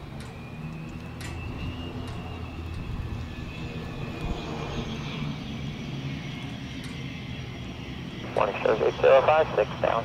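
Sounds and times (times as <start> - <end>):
high turbine whine: 0.0 - 10.0
propeller drone: 0.0 - 10.0.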